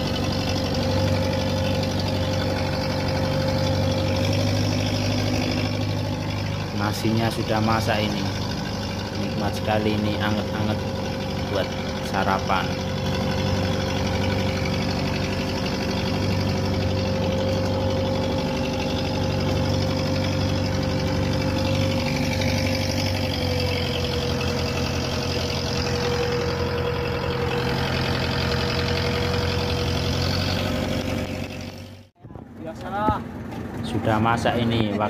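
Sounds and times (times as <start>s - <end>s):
boat engine drone: 0.0s - 35.0s.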